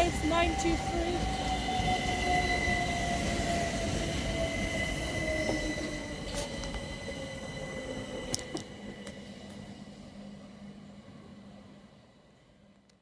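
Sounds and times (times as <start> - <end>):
rail rumble: 0.0 - 11.2.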